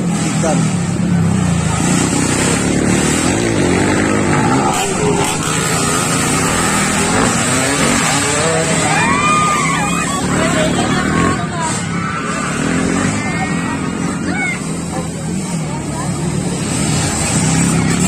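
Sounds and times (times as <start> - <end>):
constant noisy wash: 0.0 - 18.0
motorcycle engines revving: 0.0 - 18.0.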